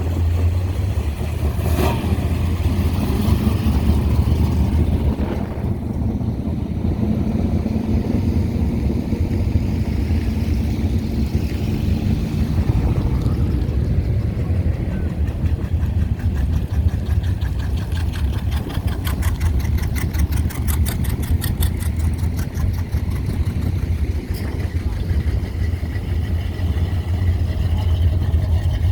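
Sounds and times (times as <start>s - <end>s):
cars driving slowly past: 0.0s - 28.9s
wind rumbling on microphone: 0.0s - 28.9s.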